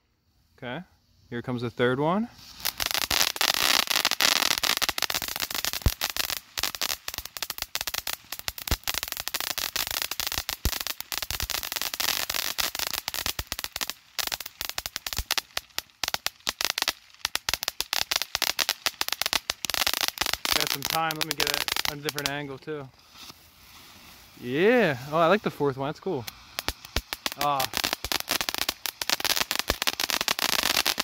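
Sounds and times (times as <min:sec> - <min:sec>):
firework crackling and popping: 0:02.3 - 0:31.0
firework sparks hissing: 0:02.3 - 0:31.0.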